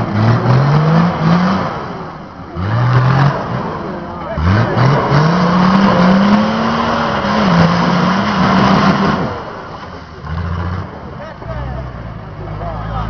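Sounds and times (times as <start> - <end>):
off-road engine revving in mud: 0.0 - 13.0.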